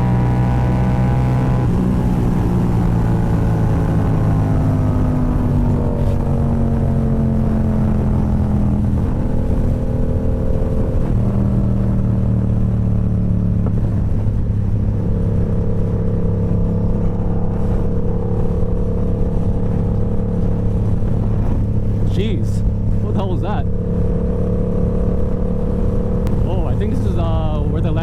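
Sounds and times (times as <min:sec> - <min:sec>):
motorcycle engine running: 0:00.0 - 0:28.0
wind and road rumble: 0:00.0 - 0:28.0.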